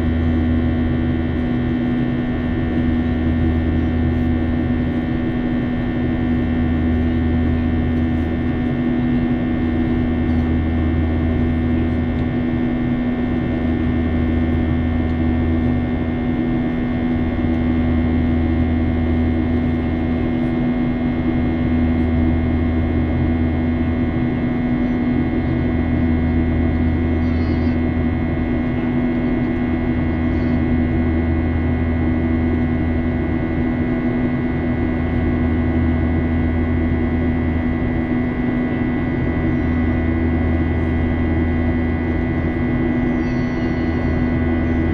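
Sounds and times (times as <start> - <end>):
deep throbbing hum: 0.0 - 44.9
jet engine and airflow drone: 0.0 - 44.9.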